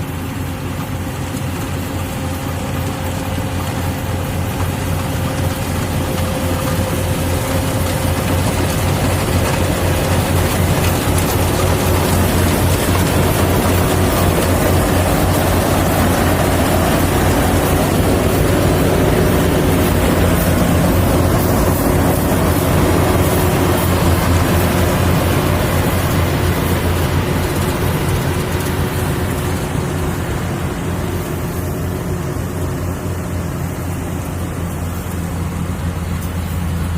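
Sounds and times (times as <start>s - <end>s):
combine harvester engine running: 0.0s - 36.9s.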